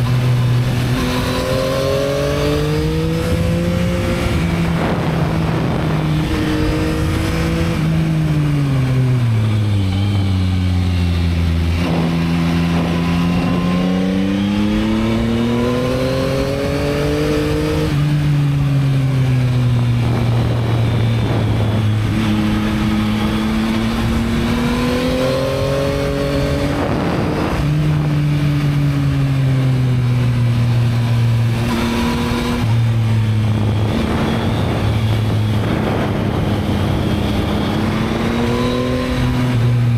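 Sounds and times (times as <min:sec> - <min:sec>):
motorcycle engine with gear shifts: 0:00.0 - 0:39.9.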